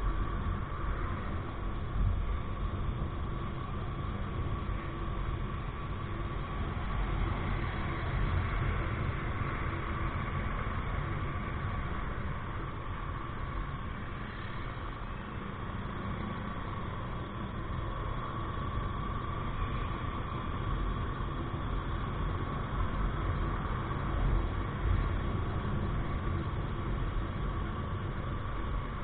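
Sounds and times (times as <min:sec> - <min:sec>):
thin steady whine: 0:00.0 - 0:29.0
wind and road noise: 0:00.0 - 0:29.0.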